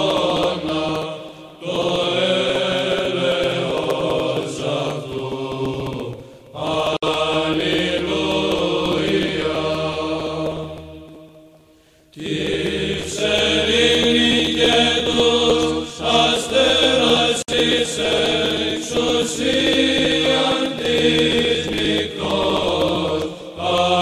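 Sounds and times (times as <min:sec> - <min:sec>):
voices chanting long notes: 0:00.0 - 0:24.0.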